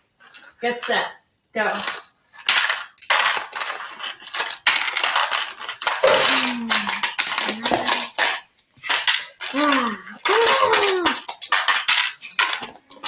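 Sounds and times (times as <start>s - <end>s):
coins clinking against plastic tubs: 1.7s - 13.0s.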